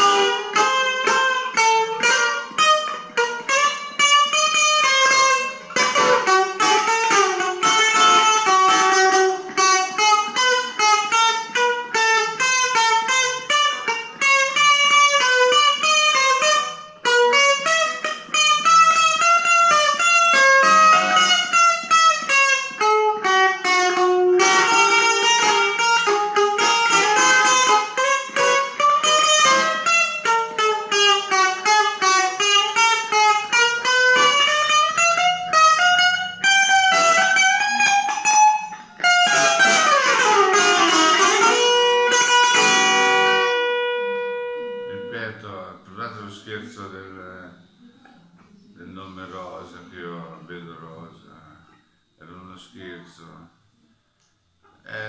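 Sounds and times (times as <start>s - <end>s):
electric guitar single-note runs: 0.0s - 48.1s.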